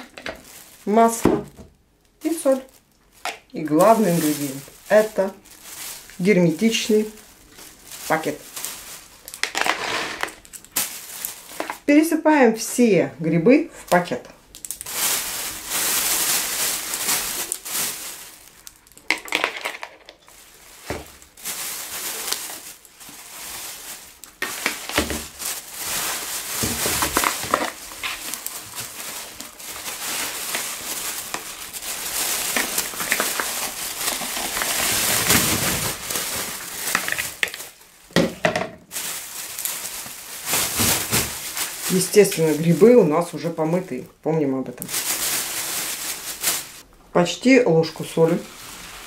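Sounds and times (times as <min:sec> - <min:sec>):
mushrooms tumbling into bag: 0:00.0 - 0:11.9, 0:13.8 - 0:44.0, 0:44.6 - 0:46.9, 0:47.8 - 0:49.0
plastic bag crinkling: 0:00.0 - 0:11.9, 0:13.4 - 0:49.0.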